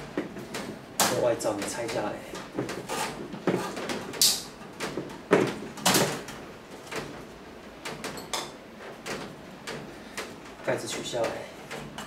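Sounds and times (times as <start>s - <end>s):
fan guard clicks and clatter: 0.0s - 12.0s.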